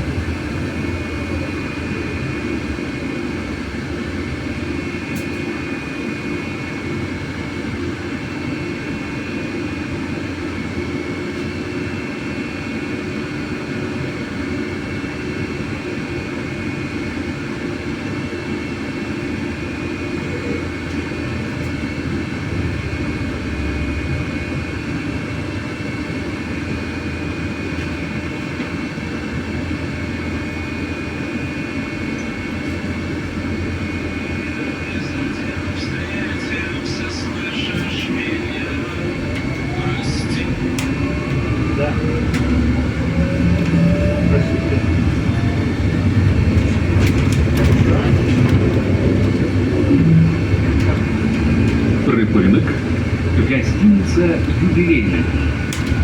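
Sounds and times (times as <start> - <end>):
high electric drive whine: 0.0 - 56.0
low road and running noise: 0.0 - 56.0.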